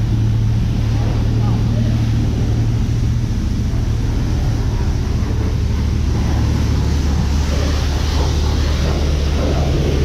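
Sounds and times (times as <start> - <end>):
high-pressure water spray: 0.0 - 10.0
low steady hum: 0.0 - 10.0.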